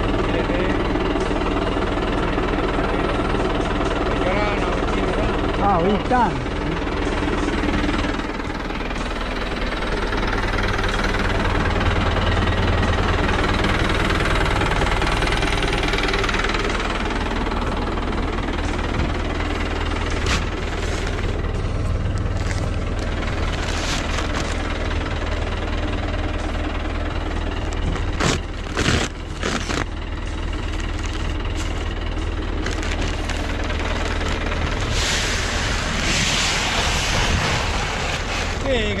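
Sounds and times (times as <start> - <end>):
clattering engine knock: 0.0 - 34.8
tractor diesel engine running: 0.0 - 39.0.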